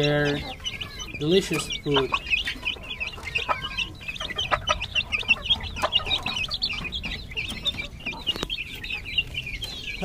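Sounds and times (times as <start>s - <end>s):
chicks pecking clay bowl: 0.0s - 10.0s
chicks peeping: 0.0s - 10.0s.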